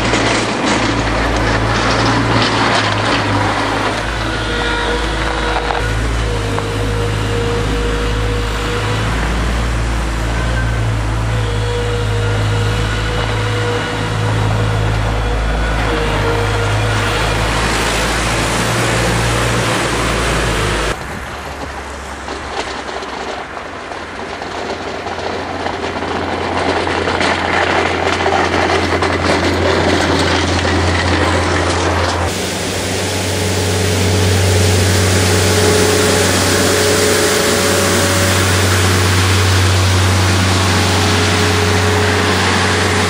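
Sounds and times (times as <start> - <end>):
compact loader engine: 0.0 - 43.0
plough blade pushing snow: 0.0 - 43.0.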